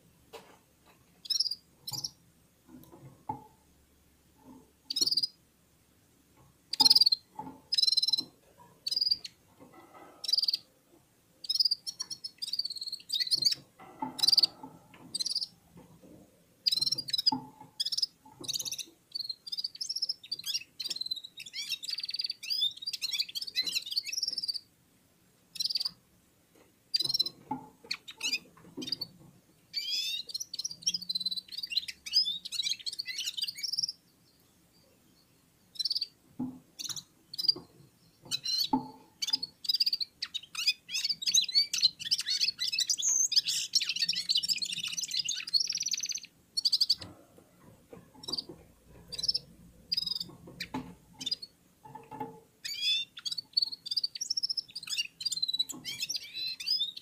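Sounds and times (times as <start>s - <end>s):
birds twittering: 1.2s - 2.2s, 4.4s - 5.4s, 6.7s - 10.7s, 11.4s - 15.9s, 16.6s - 24.7s, 25.5s - 26.0s, 26.9s - 57.0s.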